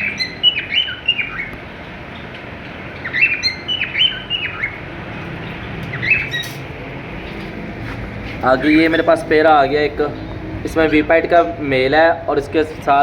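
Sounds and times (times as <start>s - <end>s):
parrots chirping: 0.0s - 11.8s
low background noise: 0.0s - 13.0s.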